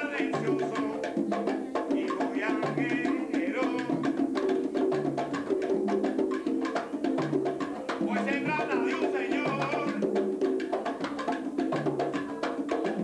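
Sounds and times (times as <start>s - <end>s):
conga drums: 0.0s - 13.0s
voices singing: 0.0s - 13.0s.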